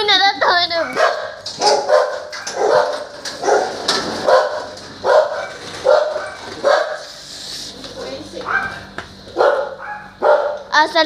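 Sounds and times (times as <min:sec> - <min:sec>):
dog barking: 0:00.4 - 0:07.1, 0:08.4 - 0:10.7.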